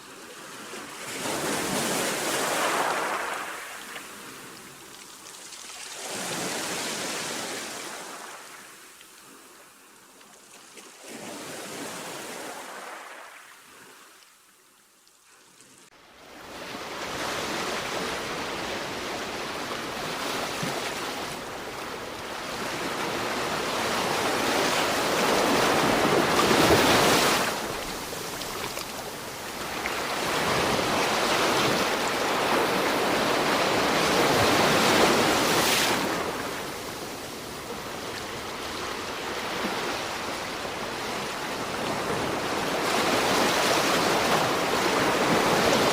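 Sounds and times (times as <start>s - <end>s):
sea waves washing ashore: 0.0s - 9.8s, 10.8s - 14.2s, 15.6s - 45.9s.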